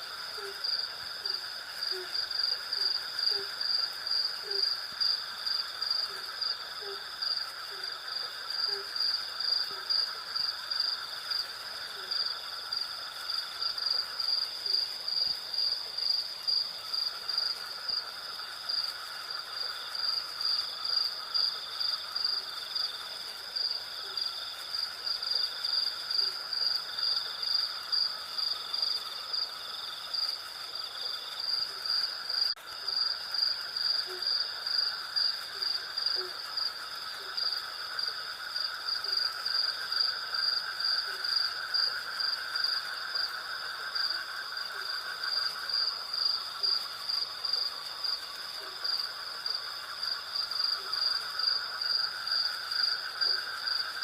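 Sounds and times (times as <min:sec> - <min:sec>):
crickets chirping: 0:00.0 - 0:54.0
low insect buzz: 0:00.0 - 0:54.0.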